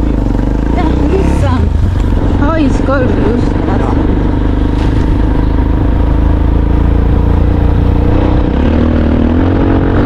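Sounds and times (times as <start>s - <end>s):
vehicle engine revving in sand: 0.6s - 10.0s.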